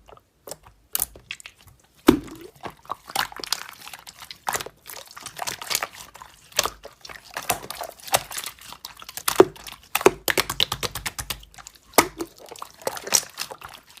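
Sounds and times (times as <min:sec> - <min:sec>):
slime squelching and popping: 0:00.2 - 0:14.0.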